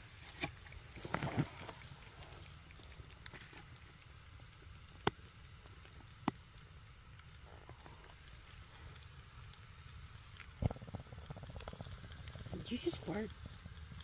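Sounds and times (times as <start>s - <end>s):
burgers sizzling: 0.0s - 14.0s
gas grill burning rumble: 0.0s - 14.0s.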